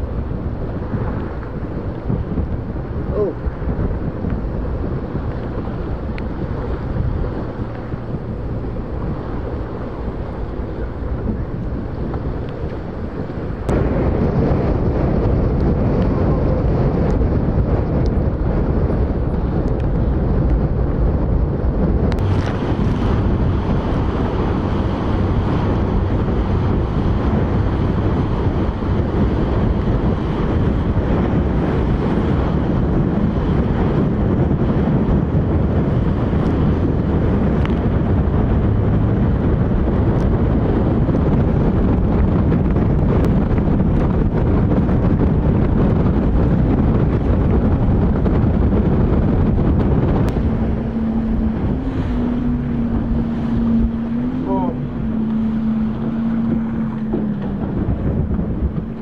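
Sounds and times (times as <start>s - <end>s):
choppy water: 0.0s - 59.0s
wind buffeting microphone: 0.0s - 59.0s.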